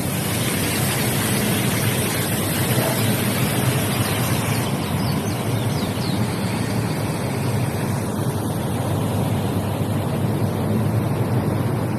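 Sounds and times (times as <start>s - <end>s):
rushing flowing water: 0.0s - 11.0s.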